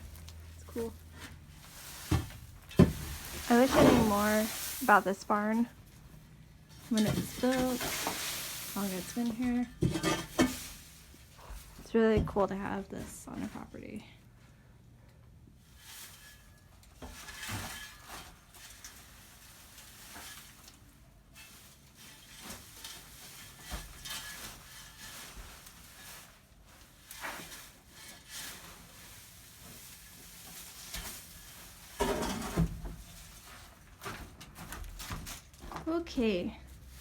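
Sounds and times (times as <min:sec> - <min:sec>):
hay rustling and scraping on wood: 0:00.0 - 0:13.8, 0:15.6 - 0:37.0.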